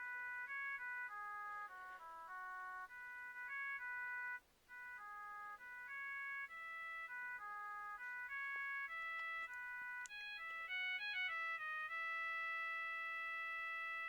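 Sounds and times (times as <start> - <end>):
electronic ringtone melody: 0.0 - 14.0.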